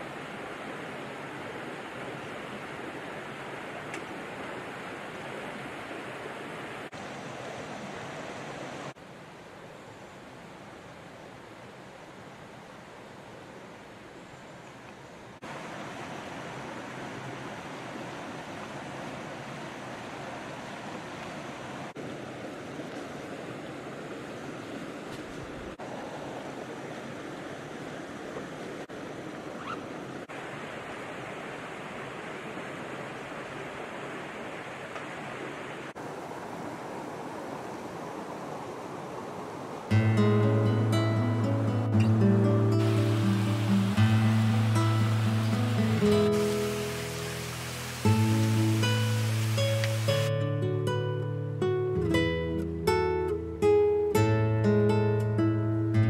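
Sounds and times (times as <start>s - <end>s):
mountain stream rushing: 0.0s - 14.3s, 15.0s - 51.2s.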